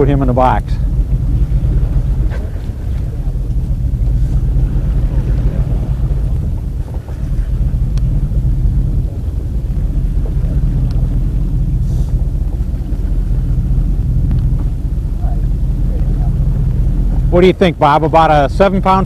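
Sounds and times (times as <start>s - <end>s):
boat engine rumbling: 0.0s - 19.0s
wind noise on microphone: 0.0s - 19.0s.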